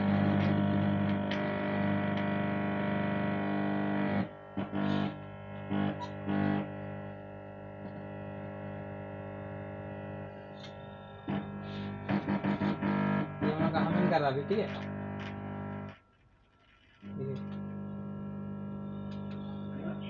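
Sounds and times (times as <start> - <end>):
short buzz bursts: 0.0 - 16.0, 17.0 - 20.0
speaker mains hum: 0.0 - 16.1, 17.0 - 20.0.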